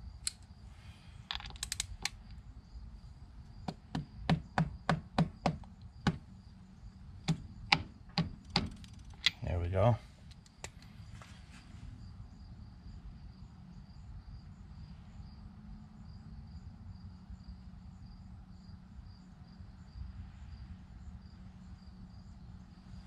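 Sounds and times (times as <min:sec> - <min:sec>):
faint insect chirping: 0:00.0 - 0:23.0
low background rumble: 0:00.0 - 0:23.0.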